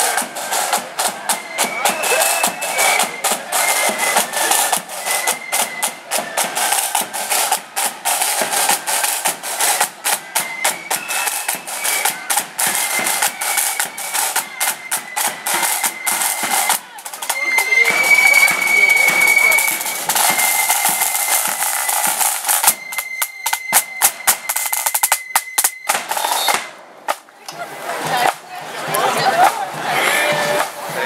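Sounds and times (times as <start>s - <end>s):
faint flute tune: 0.0s - 26.7s
side drums beating march rhythm: 0.0s - 31.0s.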